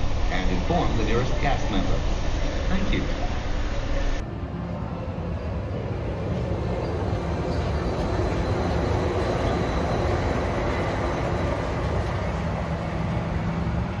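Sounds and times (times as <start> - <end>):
passenger train rolling on track: 0.0 - 14.0.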